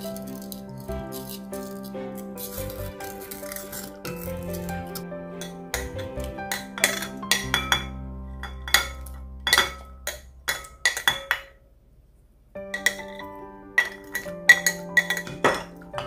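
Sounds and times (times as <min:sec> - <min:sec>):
background music: 0:00.0 - 0:11.2, 0:12.6 - 0:16.0.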